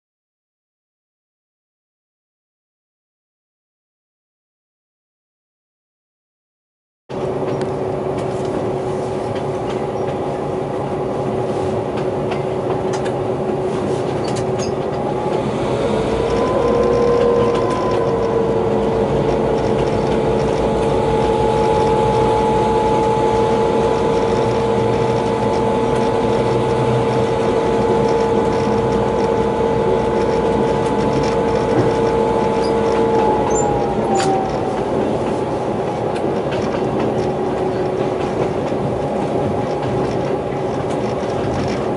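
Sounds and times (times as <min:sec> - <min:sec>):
diesel locomotive rumbling: 0:07.1 - 0:41.9
train wheels on rail: 0:07.1 - 0:41.9.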